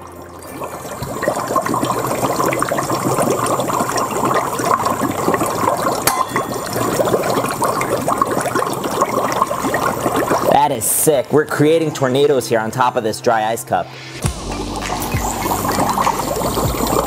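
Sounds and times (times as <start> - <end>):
dry ice fizzing in water: 0.4 - 12.9, 14.6 - 17.0.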